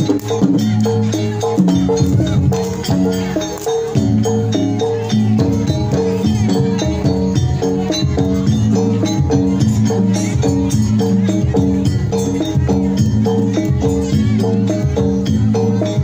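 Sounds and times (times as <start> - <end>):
gamelan music: 0.0 - 16.0.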